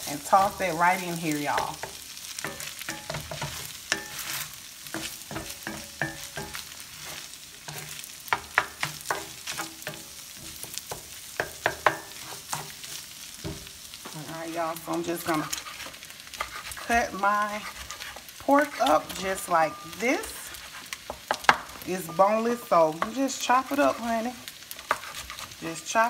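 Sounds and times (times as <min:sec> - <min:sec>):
rice sizzling in a skillet: 0:00.0 - 0:26.0
spatula scraping a pan: 0:00.0 - 0:26.0.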